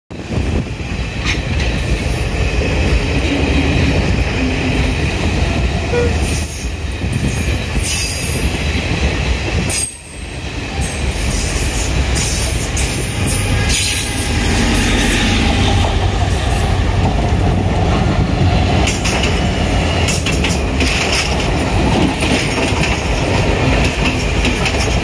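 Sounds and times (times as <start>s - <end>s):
train wheels rumbling on rails: 0.1s - 25.0s.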